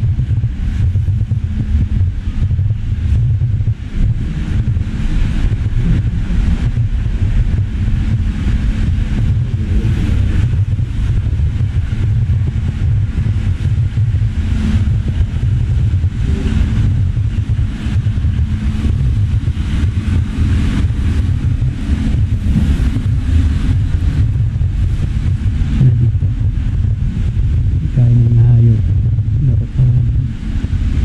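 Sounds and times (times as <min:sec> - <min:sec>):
microphone handling noise: 0:00.0 - 0:31.0
wind on microphone: 0:00.0 - 0:31.0.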